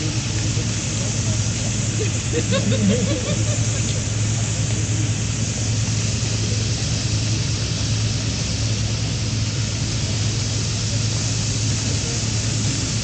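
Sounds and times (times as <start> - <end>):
pump droning: 0.0 - 13.0
water spraying: 0.0 - 13.0.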